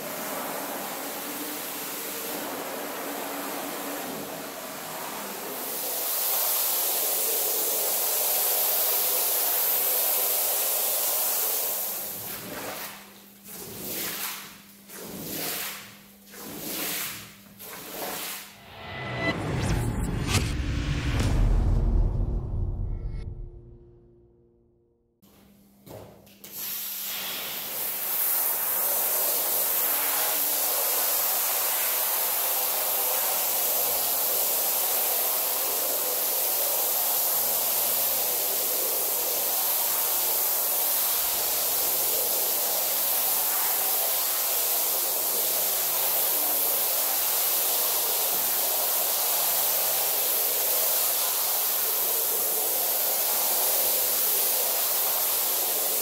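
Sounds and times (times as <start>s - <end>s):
pressure washer spraying: 0.0s - 18.6s, 26.5s - 56.0s.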